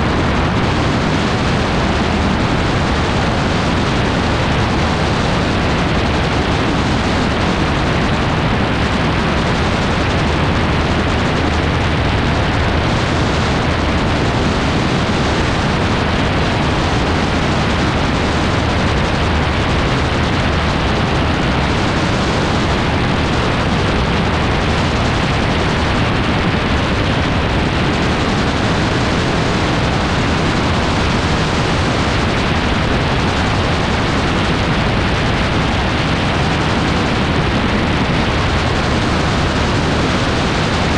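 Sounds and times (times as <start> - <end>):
aircraft engine: 0.0 - 40.9.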